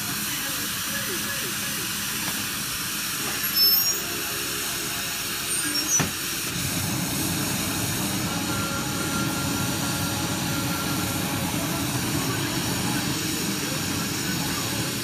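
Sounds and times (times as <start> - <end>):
low roar of furnace equipment: 0.0 - 15.0.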